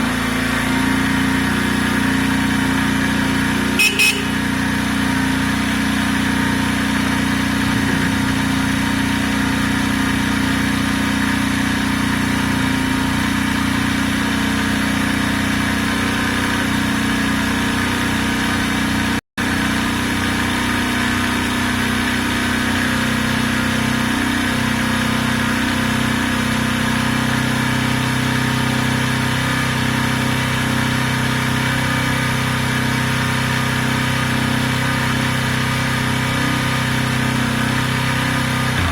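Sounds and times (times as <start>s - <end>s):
motorcycle engine idling: 1.3s - 38.9s.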